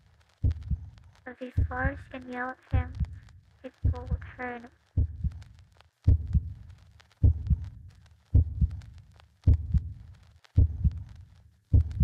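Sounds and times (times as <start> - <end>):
heartbeat thumps: 0.4 - 12.0.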